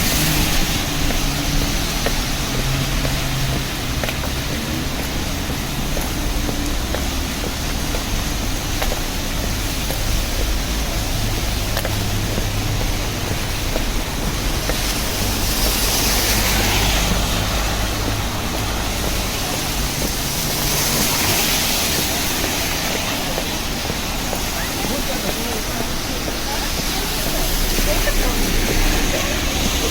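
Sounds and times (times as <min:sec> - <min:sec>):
cars swishing on wet pavement: 0:00.0 - 0:29.9
low traffic rumble: 0:00.0 - 0:29.9
rain hiss: 0:00.0 - 0:29.9.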